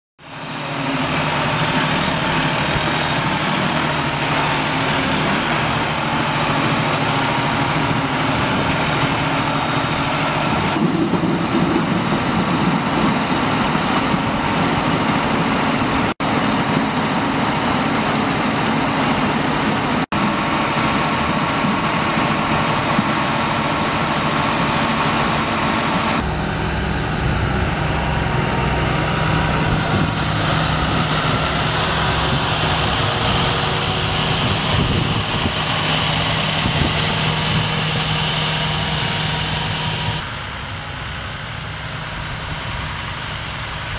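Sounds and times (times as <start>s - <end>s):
tractor diesel engines running: 0.2s - 43.9s.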